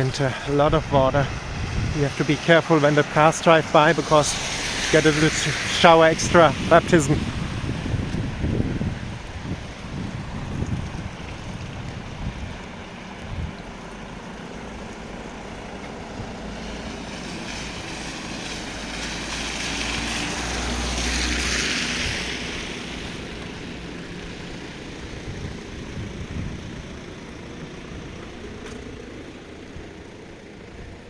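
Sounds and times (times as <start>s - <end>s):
car tyres hissing through water: 0.0s - 31.0s
rain and running water: 0.0s - 31.0s.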